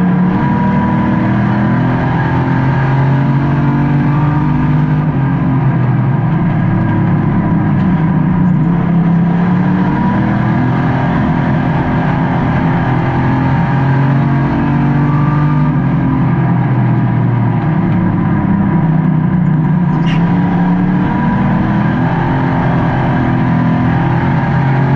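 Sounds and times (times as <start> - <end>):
race car engine revving: 0.0 - 24.9.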